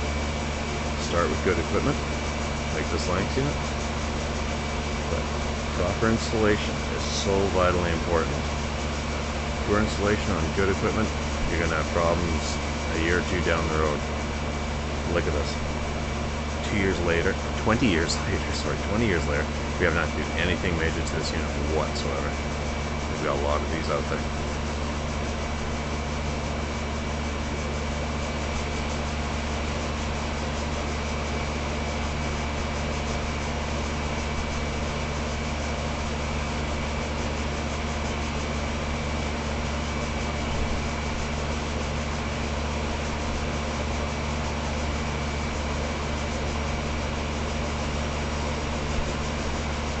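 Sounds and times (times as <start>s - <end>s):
air conditioner unit humming: 0.0s - 50.0s.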